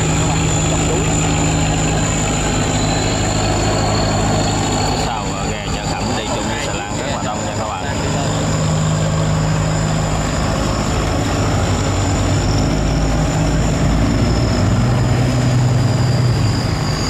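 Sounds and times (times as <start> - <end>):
boat engines droning: 0.0 - 17.0
lower engine note: 0.0 - 17.0.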